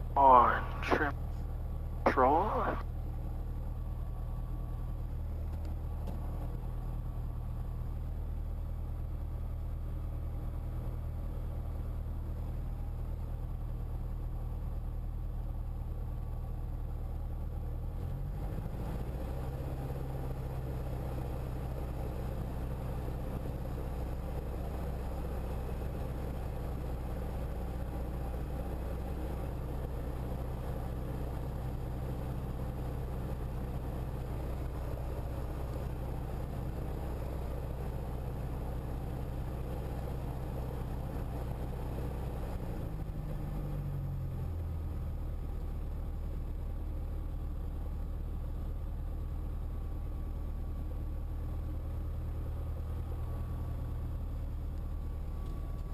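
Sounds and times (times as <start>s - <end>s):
light aircraft engine and propeller: 0.0s - 55.9s.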